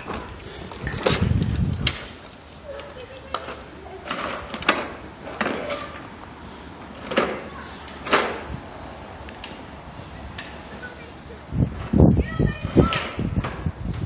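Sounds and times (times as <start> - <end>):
trike rolling over concrete: 0.0 - 14.0.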